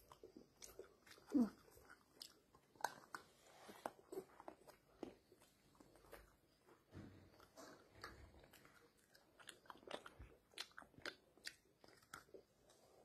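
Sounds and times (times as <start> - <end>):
chewing chocolate: 0.0 - 13.0.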